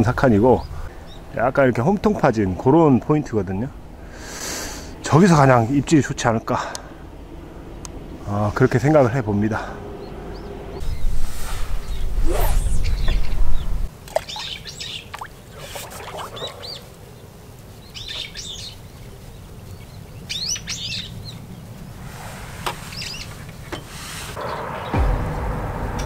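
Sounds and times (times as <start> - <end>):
small birds chirping: 0.0 - 4.4, 5.0 - 21.9, 22.7 - 25.0.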